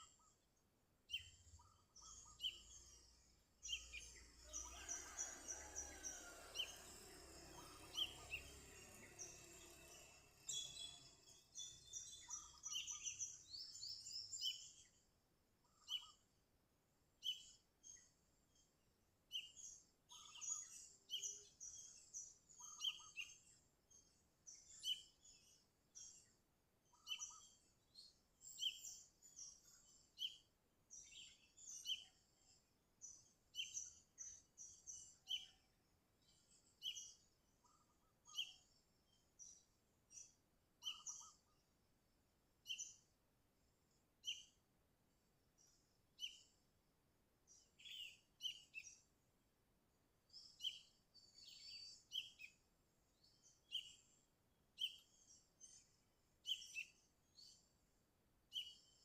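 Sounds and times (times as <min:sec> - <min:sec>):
bird chirping: 0:01.1 - 0:15.0, 0:19.3 - 0:41.7, 0:42.6 - 0:43.1, 0:45.6 - 0:46.6, 0:47.5 - 0:49.2, 0:50.3 - 0:57.8, 0:58.5 - 0:59.0.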